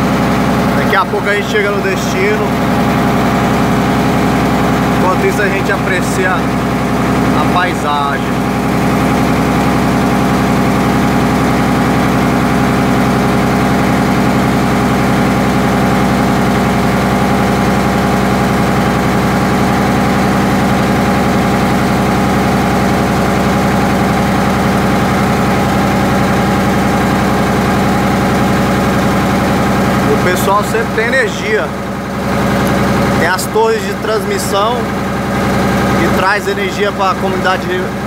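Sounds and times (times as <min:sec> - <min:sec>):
boat diesel engine running: 0:00.0 - 0:38.0.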